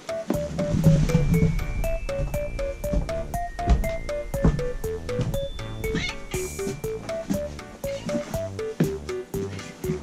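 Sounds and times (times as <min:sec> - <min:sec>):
bouncy keyboard melody: 0:00.0 - 0:10.0
drum beat: 0:00.2 - 0:09.3.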